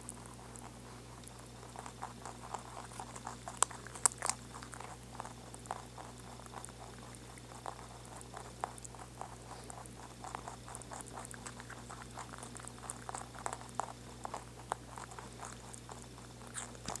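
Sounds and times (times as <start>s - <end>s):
rabbits chewing celery: 0.0s - 17.0s.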